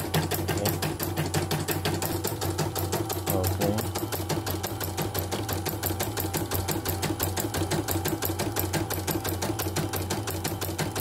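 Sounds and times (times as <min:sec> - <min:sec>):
embroidery machine needle clatter: 0:00.0 - 0:11.0
motor hum: 0:00.0 - 0:11.0.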